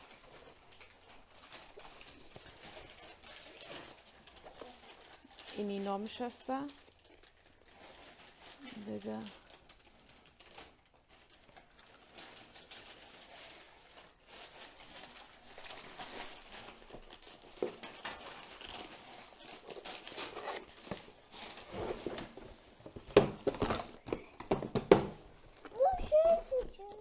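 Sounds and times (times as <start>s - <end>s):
cardboard packaging rustling: 0.0s - 27.0s.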